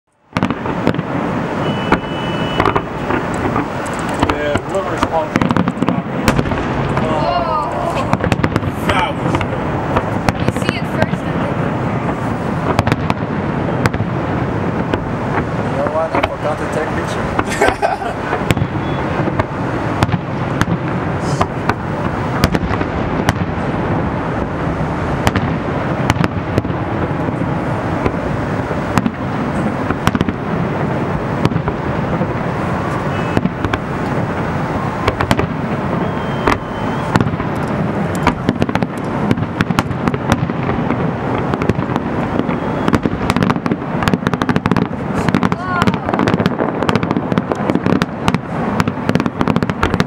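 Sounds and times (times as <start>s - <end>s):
fireworks bangs: 0.2s - 50.0s
rumble of booms and crackle: 0.2s - 50.0s.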